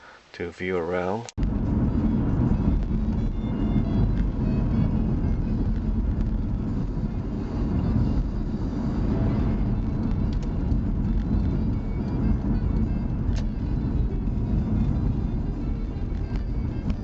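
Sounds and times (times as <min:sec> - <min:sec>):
car engine and road rumble: 0:00.3 - 0:17.0.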